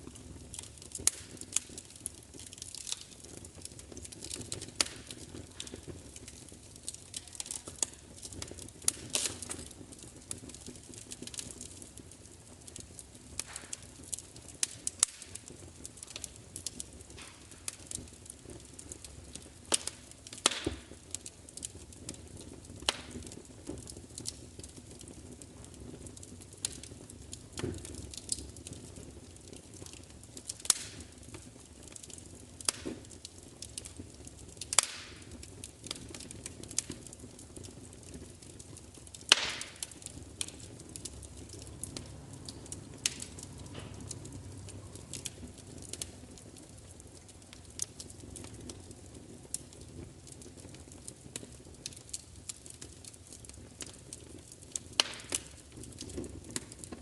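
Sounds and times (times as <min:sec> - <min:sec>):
fire crackling: 0:00.0 - 0:57.0.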